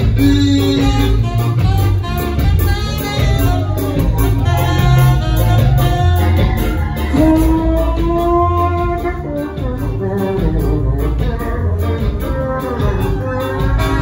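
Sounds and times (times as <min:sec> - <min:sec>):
ska-jazz band playing: 0:00.0 - 0:14.0
tenor saxophone: 0:00.0 - 0:14.0.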